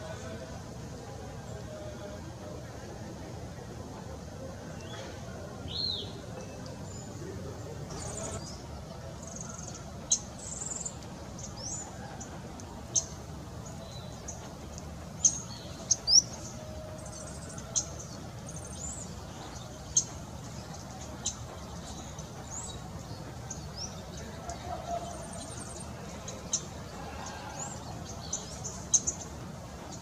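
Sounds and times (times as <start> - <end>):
low background hiss: 0.0 - 30.0.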